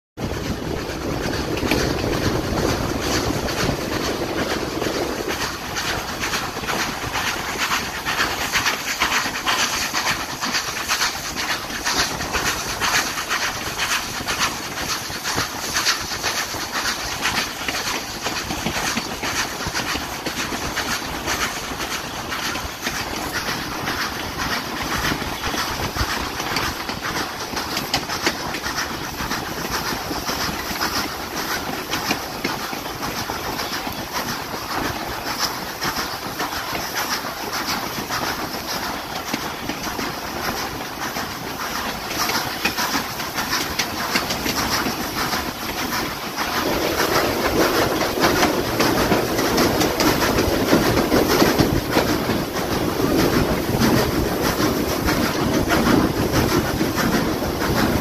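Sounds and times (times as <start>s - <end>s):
steam train running: 0.2s - 58.0s.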